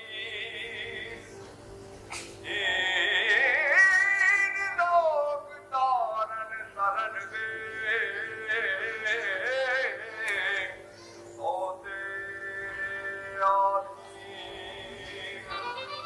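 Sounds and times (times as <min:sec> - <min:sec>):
person singing with vibrato: 0:00.0 - 0:01.4, 0:02.3 - 0:16.0
held accompaniment tone: 0:00.0 - 0:16.0.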